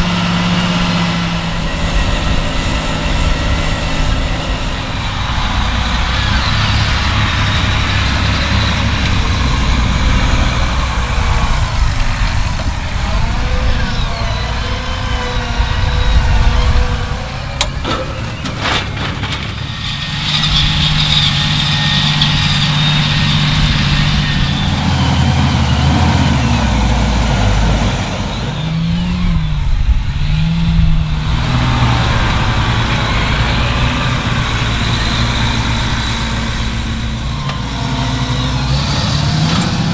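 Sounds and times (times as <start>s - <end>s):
diesel tractor engines running: 0.0s - 39.9s
engine revving: 0.0s - 39.9s.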